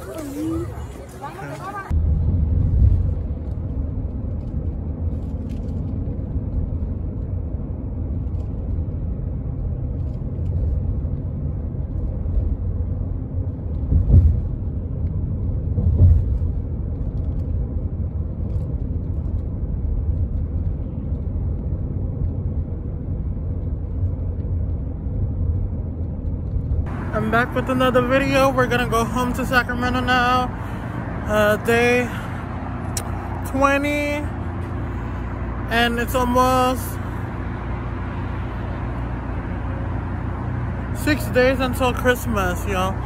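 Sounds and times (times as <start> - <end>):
car road and engine rumble: 0.0 - 43.0.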